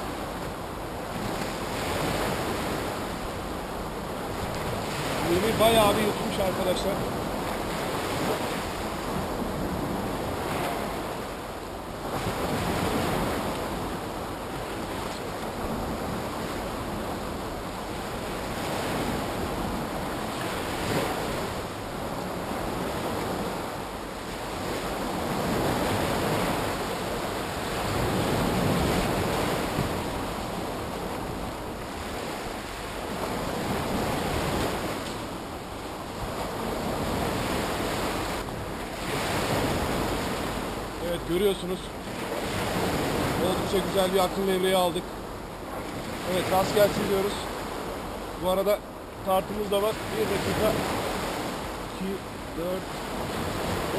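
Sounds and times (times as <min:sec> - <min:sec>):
sea waves breaking on shore: 0:00.0 - 0:53.9.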